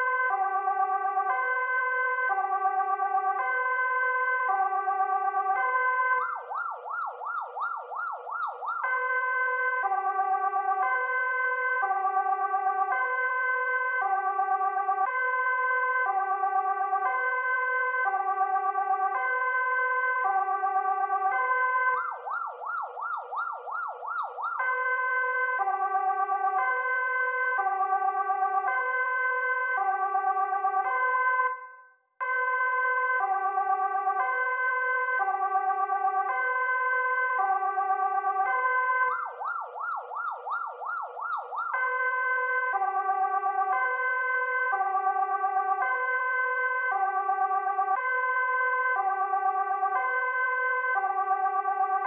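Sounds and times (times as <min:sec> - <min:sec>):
police car siren: 0:00.0 - 0:52.0.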